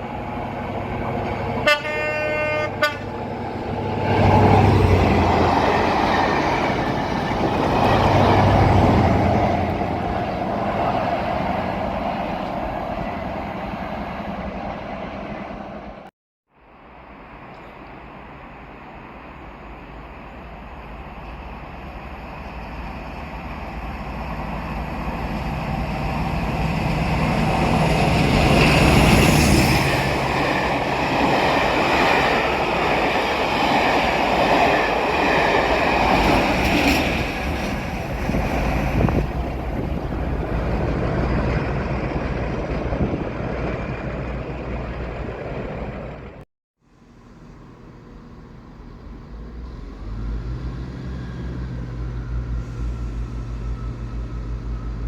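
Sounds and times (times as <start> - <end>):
train passing: 0.0 - 46.4, 47.0 - 55.0.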